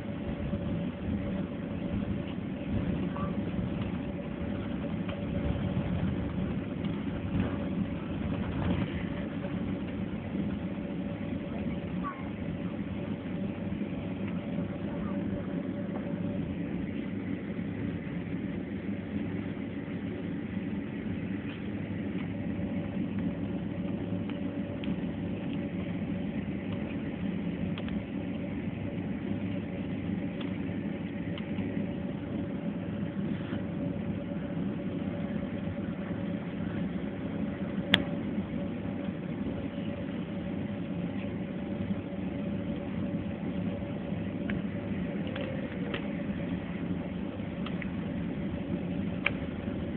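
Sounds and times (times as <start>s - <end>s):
faint steady hum: 0.0s - 49.9s
jet engines idling: 0.0s - 49.9s.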